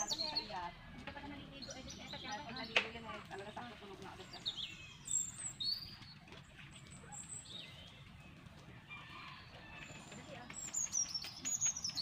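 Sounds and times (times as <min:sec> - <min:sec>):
birds chirping and whistling: 0:00.0 - 0:00.7, 0:01.3 - 0:12.0
faint outdoor background: 0:00.0 - 0:12.0.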